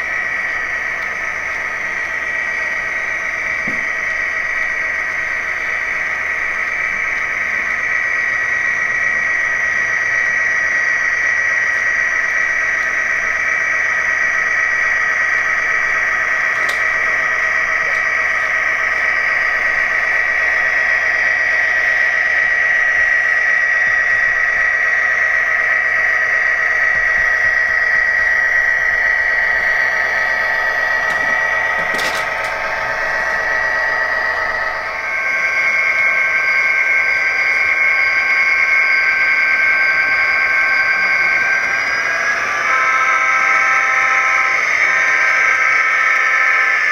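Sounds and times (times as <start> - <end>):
model locomotive diesel engine sound: 0.0 - 46.9.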